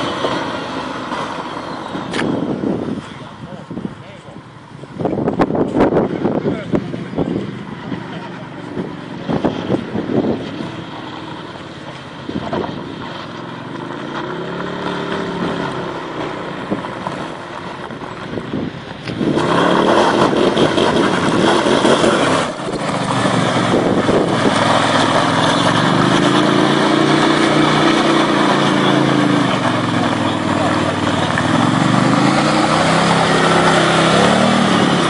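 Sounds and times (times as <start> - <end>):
utility vehicle engine revving: 0.0 - 35.0.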